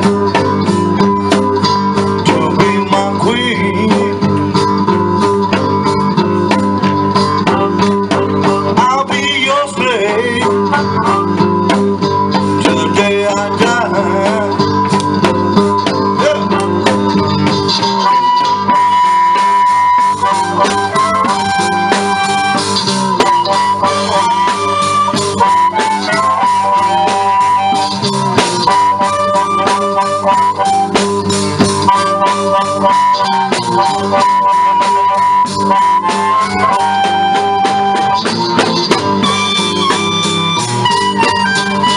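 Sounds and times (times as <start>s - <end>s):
guitar strumming: 0.0s - 41.9s
harmonica bent notes: 0.0s - 41.9s.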